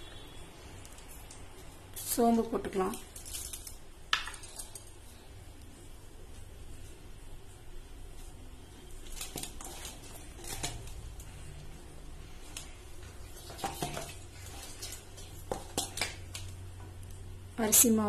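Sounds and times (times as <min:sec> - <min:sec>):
hands stirring flour: 0:00.0 - 0:16.8.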